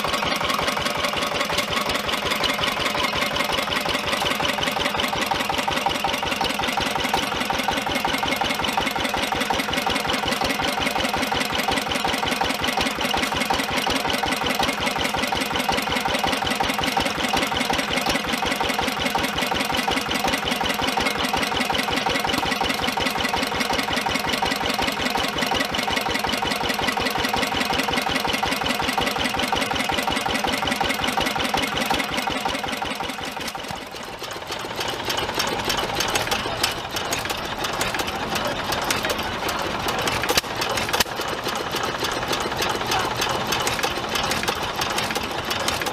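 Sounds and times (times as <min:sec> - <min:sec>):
stationary gas engine clattering: 0:00.0 - 0:45.9.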